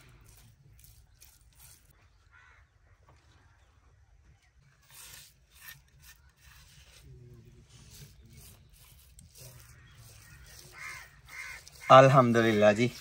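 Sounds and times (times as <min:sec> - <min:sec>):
faint distant calls: 0:00.0 - 0:13.0.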